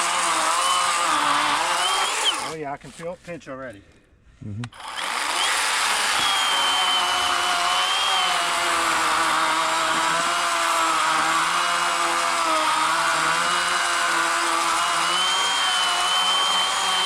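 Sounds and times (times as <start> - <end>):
electric chainsaw cutting log: 0.0 - 2.6, 4.8 - 17.0.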